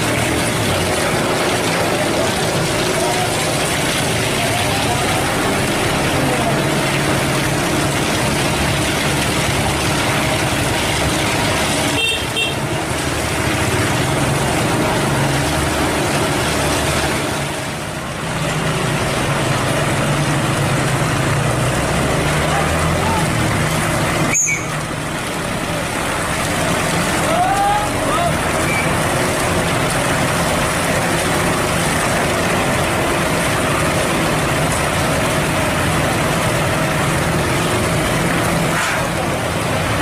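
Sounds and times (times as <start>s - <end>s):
heavy diesel truck engine: 0.0s - 40.0s.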